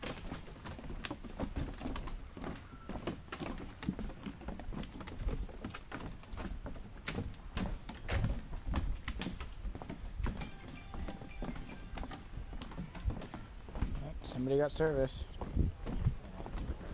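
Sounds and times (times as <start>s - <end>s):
footsteps: 0.0s - 16.9s.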